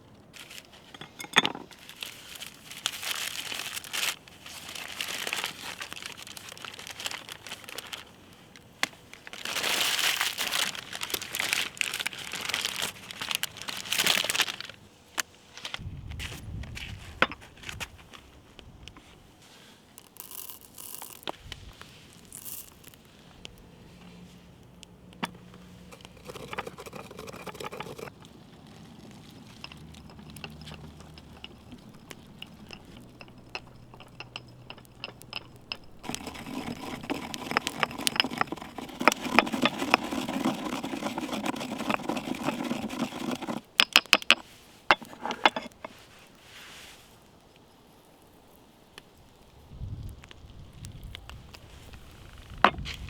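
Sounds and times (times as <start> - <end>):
sticks scraping and crunching: 0.2 - 18.3, 19.0 - 47.5.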